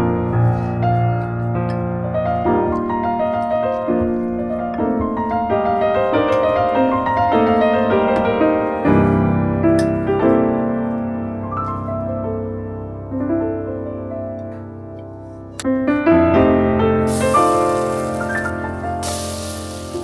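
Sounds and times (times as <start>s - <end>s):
gentle solo piano piece: 0.0s - 20.0s.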